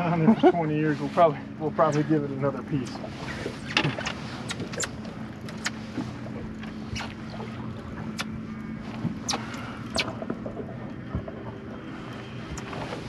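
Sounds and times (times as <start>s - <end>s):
outboard motor running: 0.0s - 13.0s
water noise: 0.0s - 13.0s
wind: 0.0s - 13.0s.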